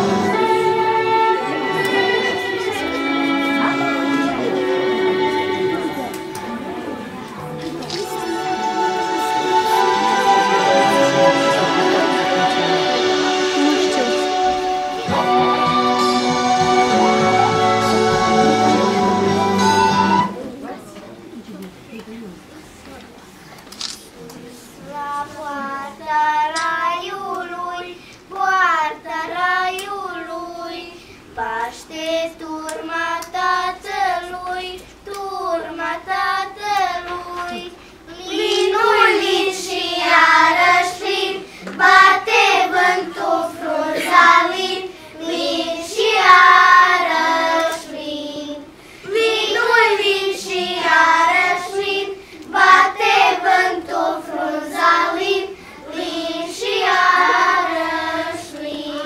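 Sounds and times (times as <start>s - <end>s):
children's choir singing: 0.0s - 20.5s, 24.8s - 59.0s.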